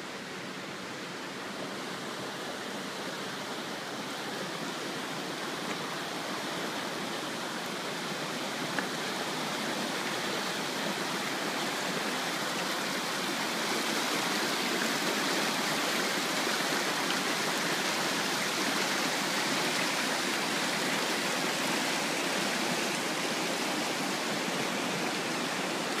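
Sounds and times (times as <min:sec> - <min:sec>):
water rushing over rocks: 0:00.1 - 0:26.0.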